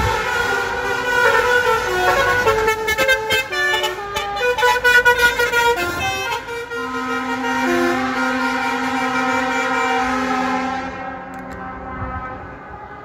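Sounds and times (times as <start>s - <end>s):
steady horn tone: 0.0s - 13.0s
truck horns playing a tune: 0.0s - 13.0s.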